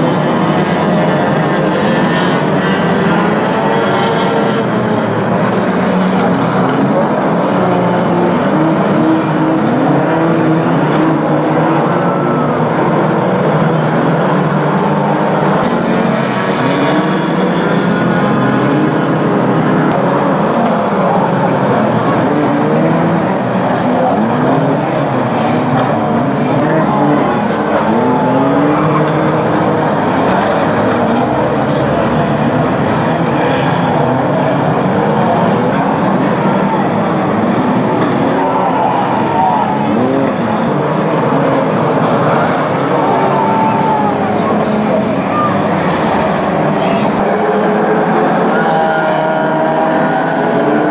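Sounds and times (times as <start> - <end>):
racing car engines revving: 0.0 - 50.9.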